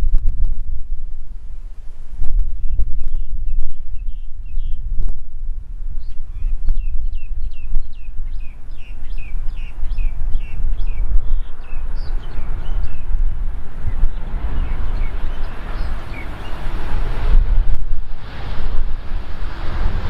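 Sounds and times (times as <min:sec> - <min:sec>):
rushing noise: 0:00.0 - 0:20.0
wind buffeting microphone: 0:00.0 - 0:20.0
bird chirping downward sweeps: 0:02.4 - 0:20.0.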